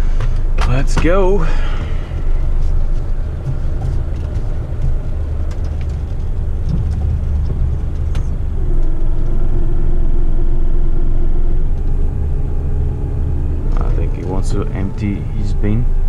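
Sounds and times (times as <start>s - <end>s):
diesel engine low rumble: 0.0s - 16.0s
higher steady hum: 0.0s - 16.0s.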